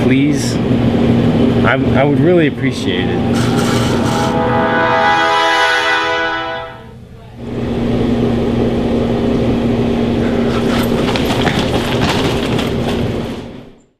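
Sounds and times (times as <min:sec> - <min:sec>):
loud mechanical hum with rush: 0:00.0 - 0:13.8.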